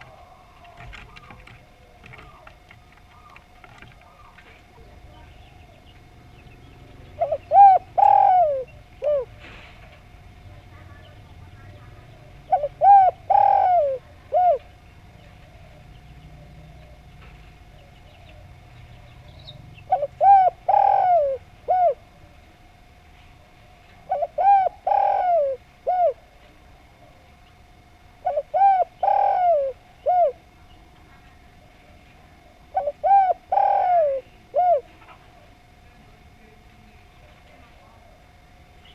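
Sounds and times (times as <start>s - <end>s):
dove cooing: 0.0s - 35.8s.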